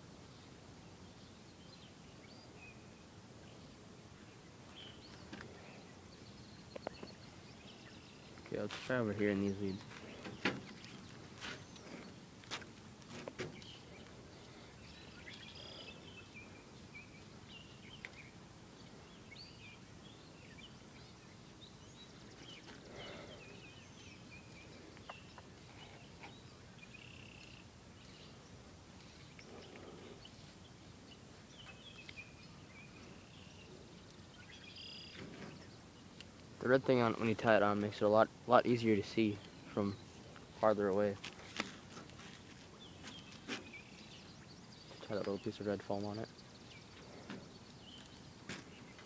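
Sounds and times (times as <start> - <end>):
outdoor background hiss: 0.0 - 49.0
small birds chirping: 0.2 - 49.0.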